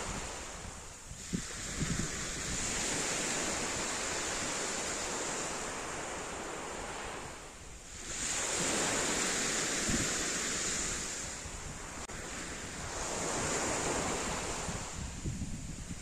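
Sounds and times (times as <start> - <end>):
waves washing up a pebble beach: 0.0 - 15.2.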